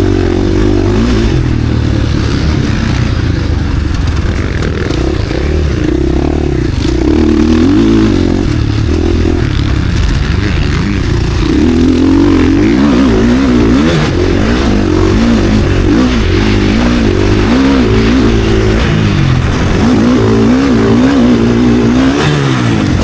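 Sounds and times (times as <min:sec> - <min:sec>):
motocross engine revving: 0:00.0 - 0:23.0.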